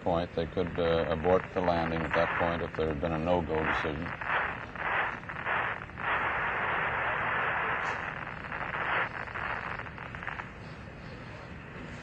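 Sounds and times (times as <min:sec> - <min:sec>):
radio static hiss: 0:00.0 - 0:11.4.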